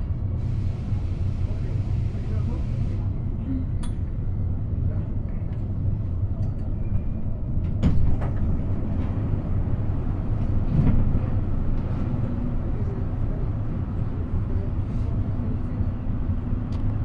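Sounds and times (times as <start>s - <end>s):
metro car low hum: 0.0s - 17.0s.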